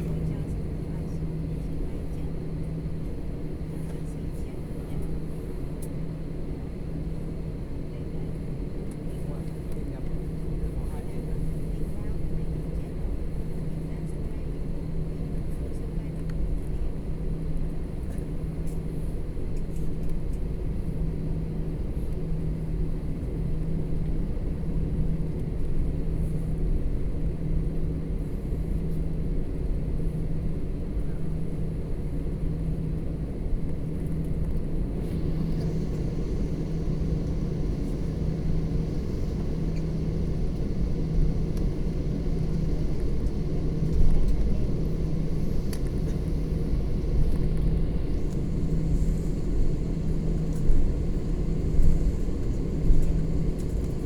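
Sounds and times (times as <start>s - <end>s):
airliner cabin jet engine rumble: 0.0s - 54.0s.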